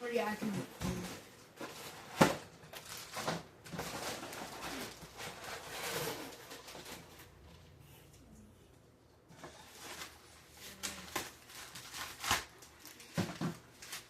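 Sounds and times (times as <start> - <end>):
packaging rustling and crinkling: 0.8 - 7.6, 9.3 - 14.0.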